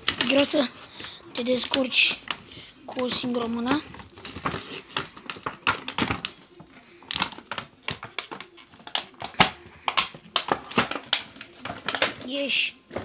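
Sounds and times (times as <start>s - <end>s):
plastic crinkling: 0.0s - 13.0s.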